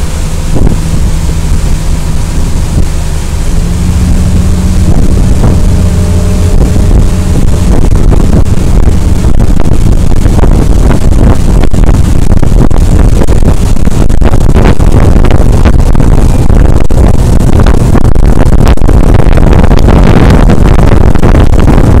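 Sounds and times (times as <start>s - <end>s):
rushing water: 0.0s - 22.0s
speedboat engine: 0.0s - 22.0s
wind buffeting microphone: 0.0s - 22.0s.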